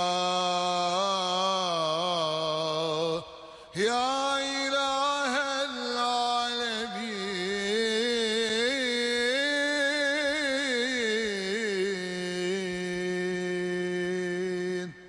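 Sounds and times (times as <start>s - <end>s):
person singing religious chant: 0.0s - 15.0s.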